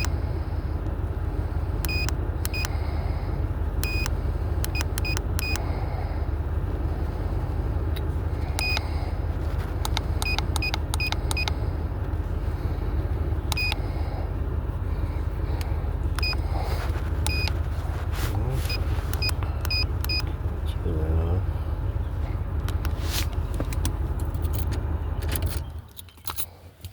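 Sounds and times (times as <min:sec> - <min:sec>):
low rumble: 0:00.0 - 0:25.9.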